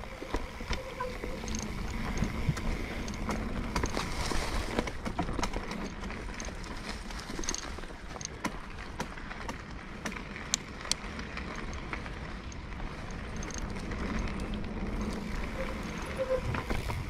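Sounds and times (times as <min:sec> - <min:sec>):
bike rattling over bumps: 0:00.0 - 0:17.0
bike tyres rumbling on dirt: 0:00.0 - 0:17.0.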